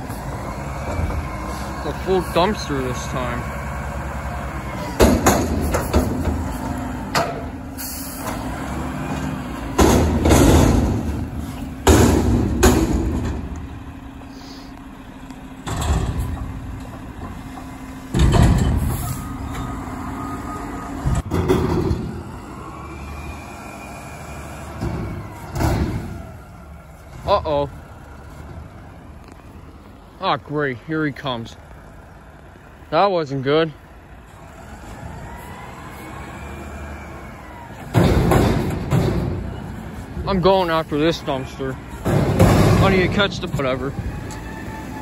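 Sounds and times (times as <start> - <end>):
dumpster banging: 0.0 - 14.2, 15.4 - 29.1, 36.5 - 45.0
diesel engine running: 0.0 - 45.0.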